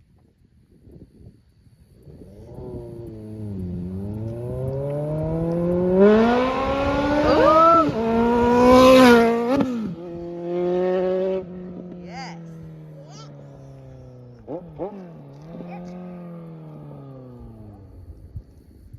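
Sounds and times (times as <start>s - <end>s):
motorcycle engine revving: 2.0s - 18.9s.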